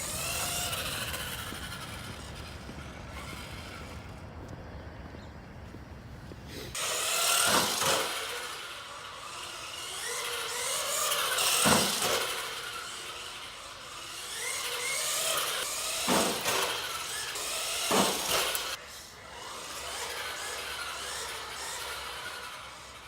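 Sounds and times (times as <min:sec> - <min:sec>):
toy truck electric motor whining: 0:00.0 - 0:04.2, 0:06.5 - 0:23.0.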